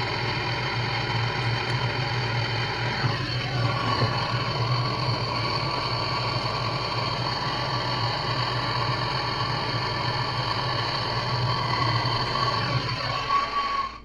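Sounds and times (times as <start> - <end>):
gas torch flame hissing: 0.0 - 14.0.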